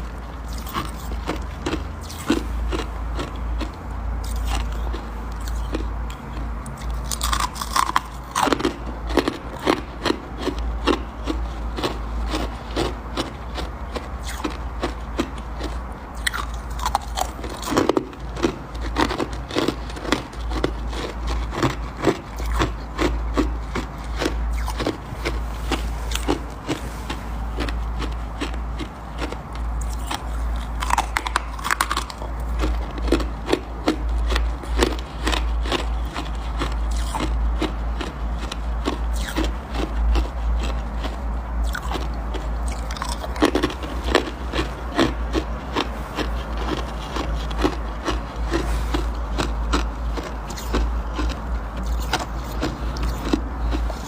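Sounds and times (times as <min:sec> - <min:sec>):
chewing crunchy ice: 0:00.0 - 0:54.0
steady low hum: 0:00.0 - 0:54.0.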